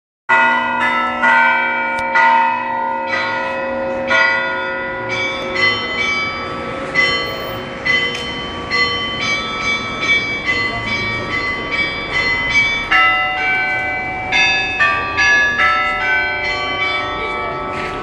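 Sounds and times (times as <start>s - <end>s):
church bells ringing: 0.3s - 18.0s.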